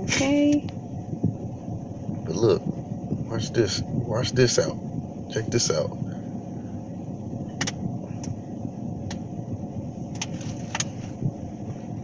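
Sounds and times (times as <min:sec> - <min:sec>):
faint steady hum: 0:00.0 - 0:12.0
vehicle engine rumbling: 0:00.0 - 0:12.0.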